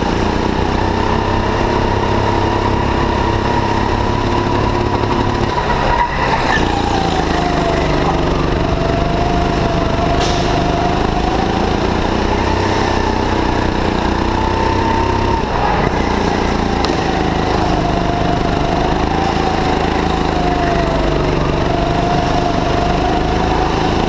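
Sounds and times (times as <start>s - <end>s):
go-kart engine: 0.0s - 24.0s.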